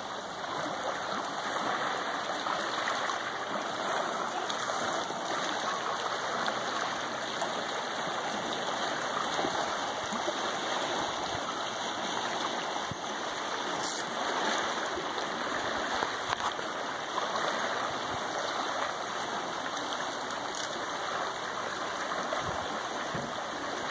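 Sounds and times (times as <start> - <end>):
waves lapping against rocks: 0.0 - 23.9.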